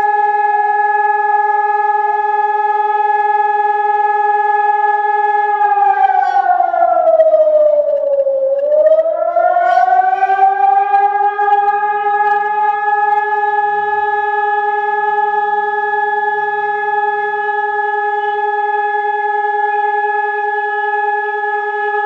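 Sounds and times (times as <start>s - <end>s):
fire alarm siren: 0.0s - 22.0s.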